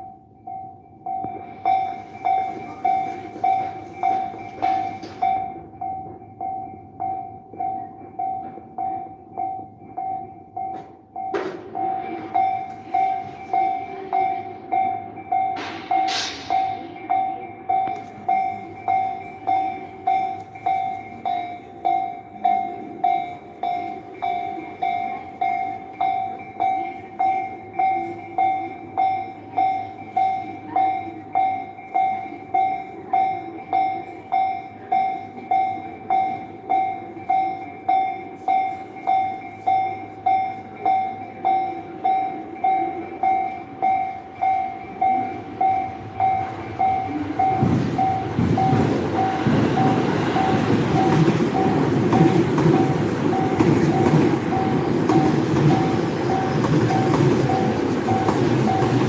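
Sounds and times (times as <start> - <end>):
railroad crossing bell ringing: 0.0 - 59.0.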